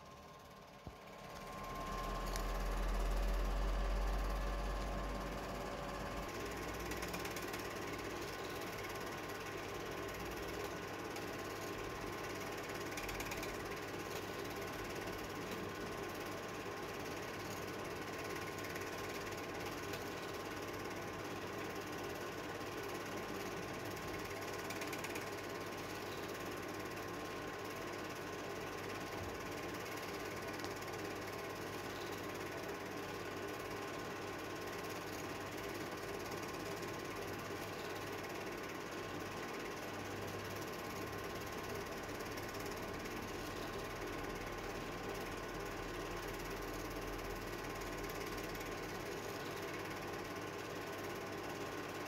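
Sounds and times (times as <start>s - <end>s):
film projector clattering: 1.3s - 52.0s.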